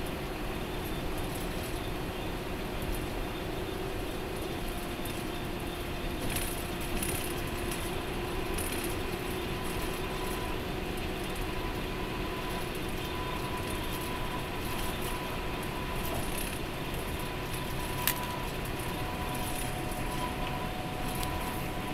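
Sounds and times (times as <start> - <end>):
coach engine and road noise: 0.0 - 21.9.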